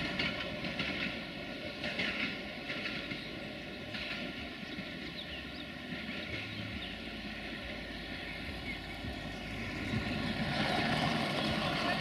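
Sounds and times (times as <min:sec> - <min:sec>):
diesel train engine drone: 0:00.0 - 0:12.0
rail noise: 0:00.0 - 0:12.0.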